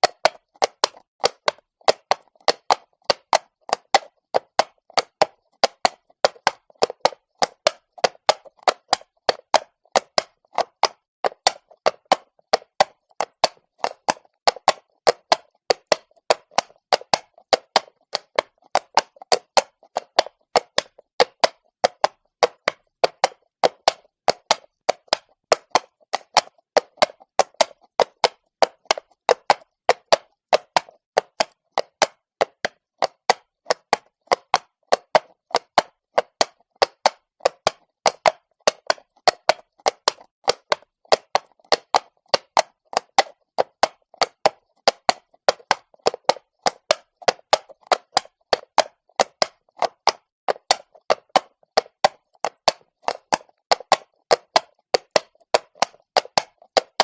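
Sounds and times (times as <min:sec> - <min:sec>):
horse hooves on cobblestone: 0:00.0 - 0:57.0.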